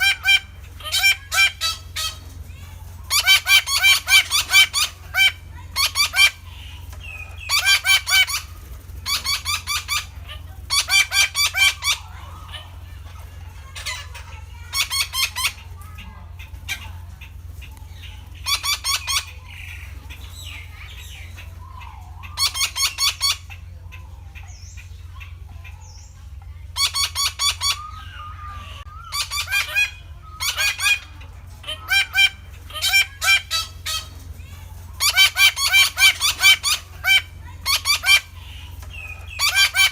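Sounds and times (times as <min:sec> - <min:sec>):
parakeet harsh calls: 0:00.0 - 0:17.3, 0:17.9 - 0:26.1, 0:26.7 - 0:39.9
steady low hum: 0:00.0 - 0:39.9.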